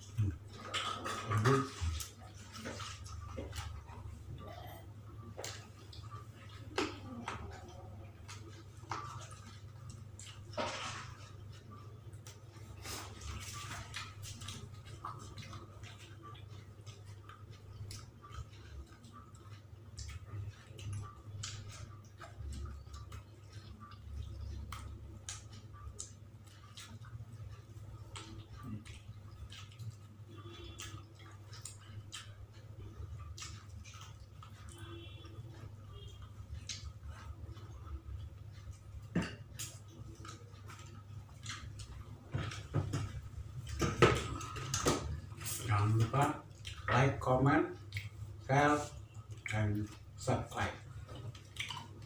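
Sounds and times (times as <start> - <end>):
low steady hum: 0.0 - 52.0
mouth chewing clicks and smacks: 0.0 - 52.0.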